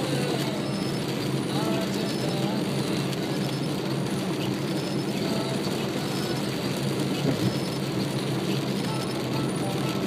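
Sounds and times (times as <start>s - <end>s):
car road noise on wet road: 0.0s - 10.0s.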